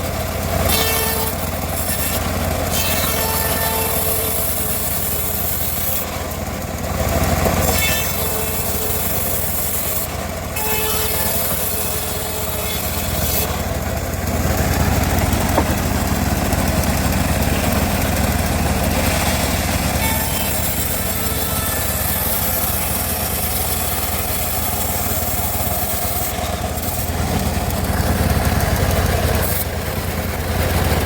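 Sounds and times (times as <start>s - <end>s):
bandsaw sawmill humming: 0.0s - 31.0s.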